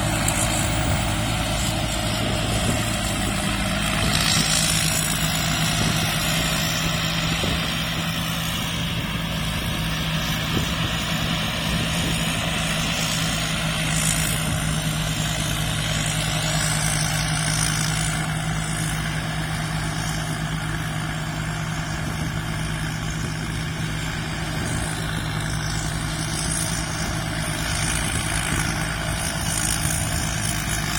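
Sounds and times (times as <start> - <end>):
harvester engine droning: 0.0 - 30.9.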